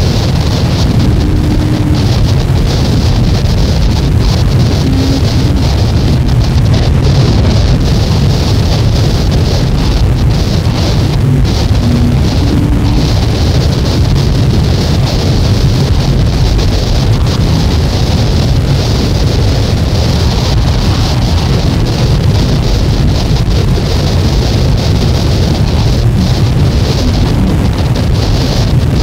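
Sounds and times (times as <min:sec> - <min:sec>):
dense noise music: 0:00.0 - 0:29.0.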